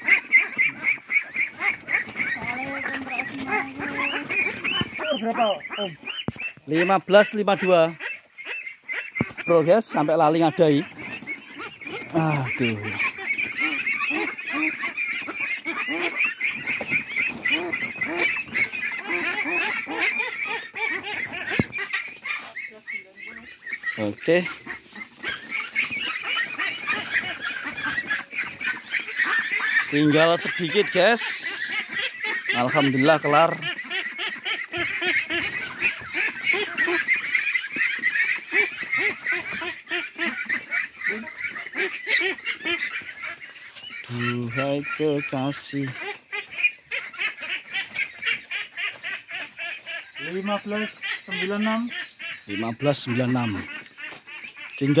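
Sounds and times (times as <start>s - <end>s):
ducks quacking: 0.0s - 55.0s.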